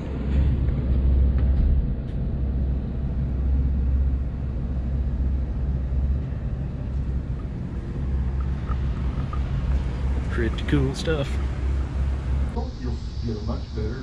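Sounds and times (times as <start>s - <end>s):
boat diesel engines rumbling: 2.2s - 14.0s.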